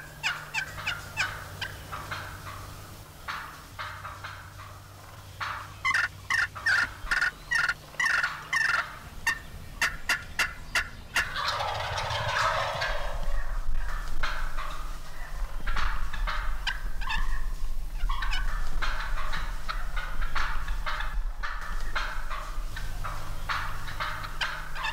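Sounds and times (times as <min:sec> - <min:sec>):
turkey gobbling: 0:00.0 - 0:24.9
turkeys yelping: 0:00.0 - 0:24.9.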